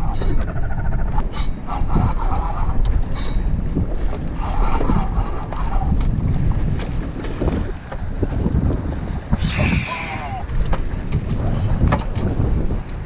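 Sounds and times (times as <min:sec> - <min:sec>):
wind buffeting microphone: 0:00.0 - 0:13.0
sea water washing: 0:00.8 - 0:13.0.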